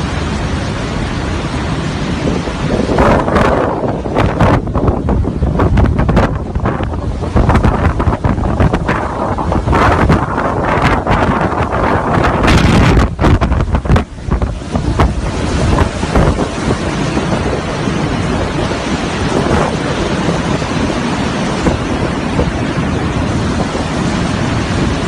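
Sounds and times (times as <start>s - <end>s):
strong wind roaring: 0.0s - 25.0s
wind buffeting microphone: 0.0s - 25.0s.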